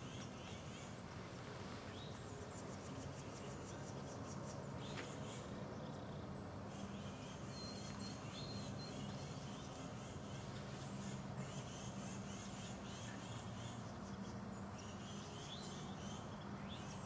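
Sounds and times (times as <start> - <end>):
small birds calling: 0.0 - 17.0.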